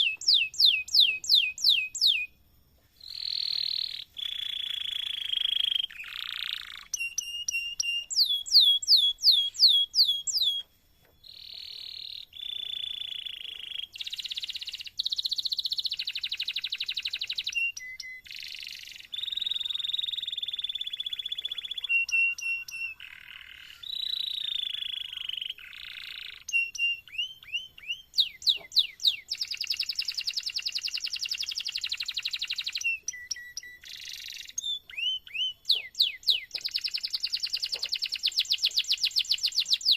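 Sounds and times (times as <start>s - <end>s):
canary singing trills and whistles: 0.0s - 39.9s.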